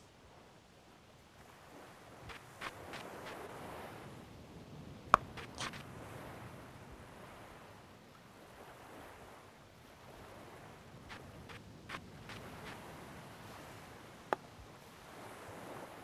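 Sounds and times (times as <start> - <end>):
waves washing on a beach: 0.0 - 16.0.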